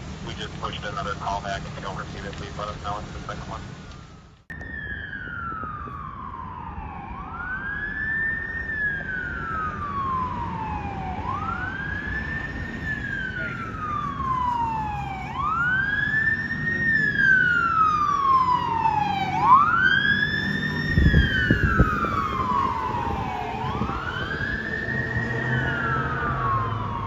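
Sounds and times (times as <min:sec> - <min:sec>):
fire engine siren wailing: 0:00.0 - 0:27.0.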